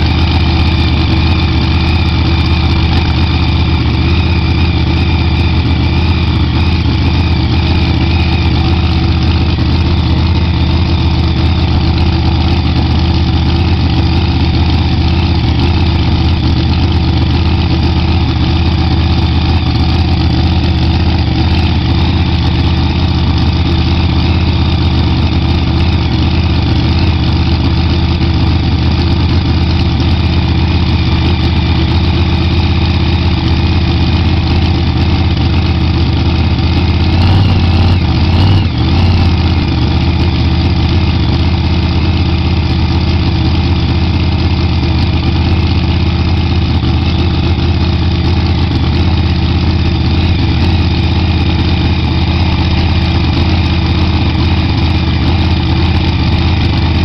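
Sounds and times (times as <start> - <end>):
engine idling loudly: 0.0 - 57.0.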